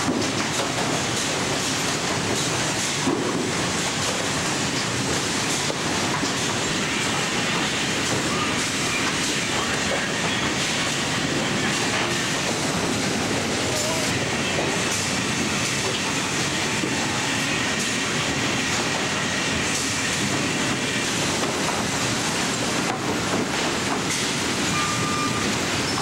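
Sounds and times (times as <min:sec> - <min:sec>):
conveyors and rollers rattling: 0:00.0 - 0:26.0.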